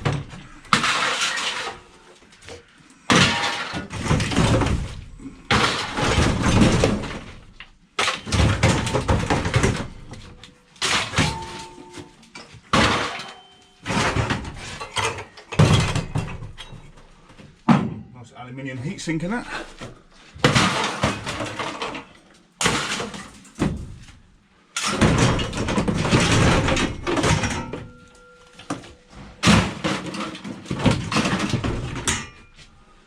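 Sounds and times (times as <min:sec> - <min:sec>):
scrap crashing and clattering: 0:00.0 - 0:18.0, 0:19.5 - 0:32.8.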